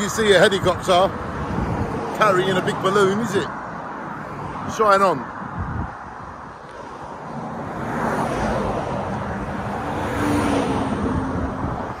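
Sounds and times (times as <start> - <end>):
heavy lorry passing: 0.0 - 12.0.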